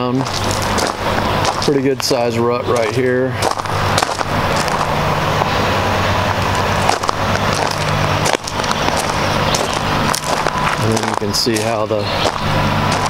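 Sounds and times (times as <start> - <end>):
footsteps on gravel: 0.0 - 13.0
steady low hum: 0.0 - 13.0.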